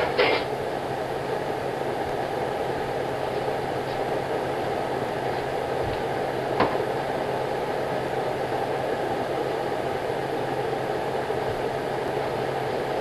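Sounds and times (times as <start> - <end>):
steady droning noise: 0.0 - 13.0.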